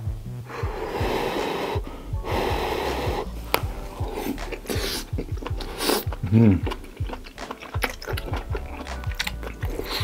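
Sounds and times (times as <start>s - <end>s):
background music: 0.0s - 10.0s
slurping and chewing: 0.5s - 10.0s.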